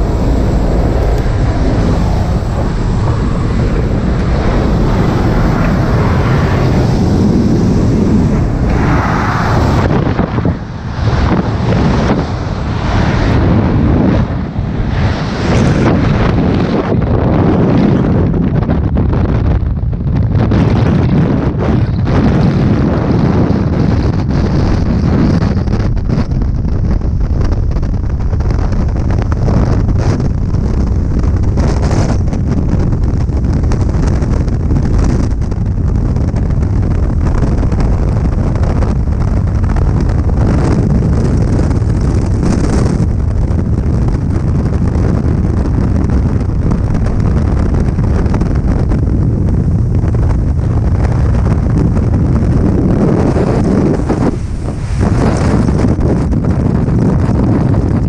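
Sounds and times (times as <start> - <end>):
freefall wind buffeting microphone: 0.0 - 58.0.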